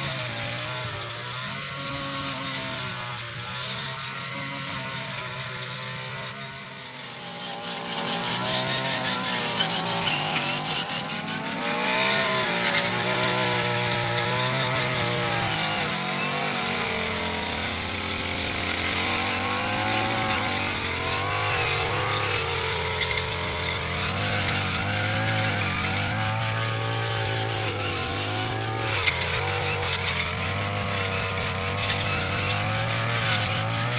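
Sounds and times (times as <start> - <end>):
brush cutter cutting grass: 0.0 - 33.9.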